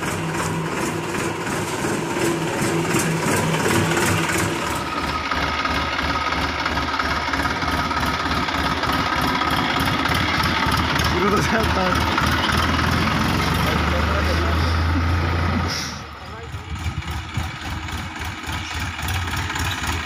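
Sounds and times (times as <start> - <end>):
tractor diesel engine idling: 0.0 - 20.0
tractor idling with pulsing note: 0.0 - 20.0.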